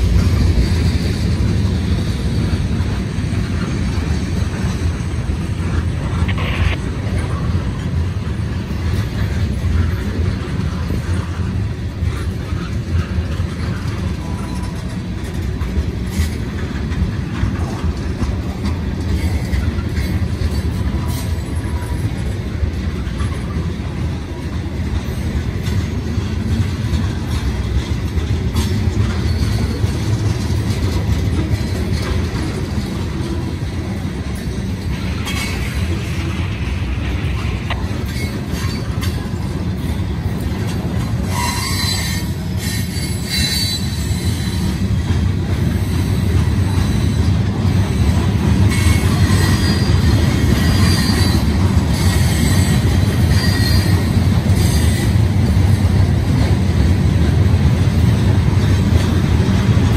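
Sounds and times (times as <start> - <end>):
freight train rumbling past: 0.0 - 59.9
wheels clicking over rail joints: 7.2 - 59.9.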